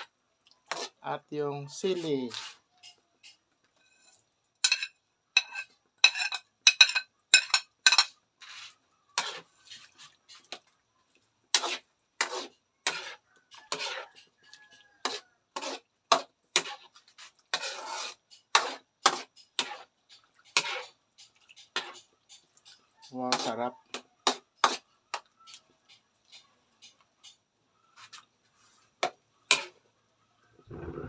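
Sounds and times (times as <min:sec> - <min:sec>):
metal spatula scraping a pan: 0:00.0 - 0:01.0, 0:01.6 - 0:10.7, 0:11.5 - 0:29.9.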